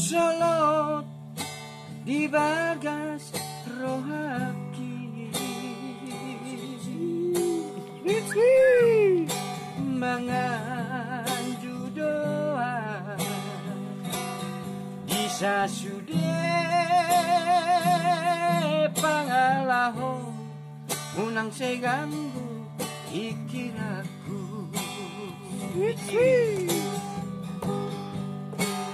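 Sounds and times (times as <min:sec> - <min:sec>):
man singing: 0:00.0 - 0:01.1, 0:02.0 - 0:14.0, 0:15.1 - 0:27.3
strummed acoustic guitar: 0:00.0 - 0:28.9.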